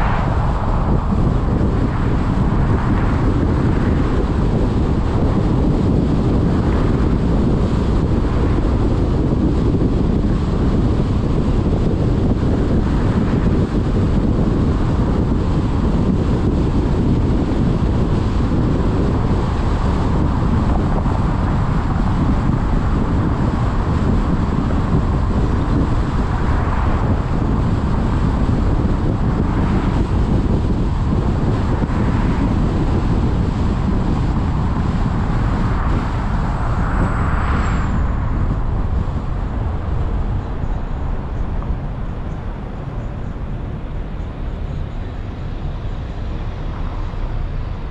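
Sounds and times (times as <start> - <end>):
car road and wind noise: 0.0 - 47.9.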